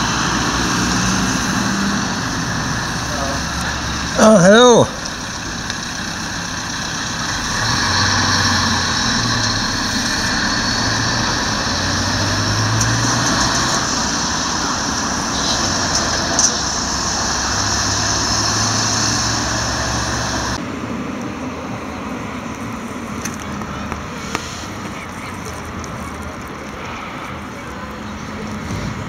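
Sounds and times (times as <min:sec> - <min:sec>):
road traffic noise: 0:00.0 - 0:29.0.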